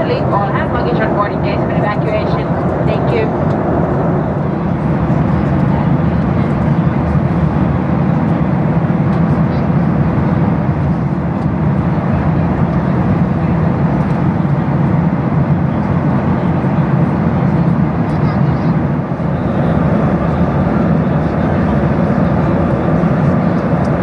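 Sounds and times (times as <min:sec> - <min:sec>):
cabin airflow rush: 0:00.0 - 0:06.6, 0:10.0 - 0:24.0
low jet engine drone: 0:00.0 - 0:24.0.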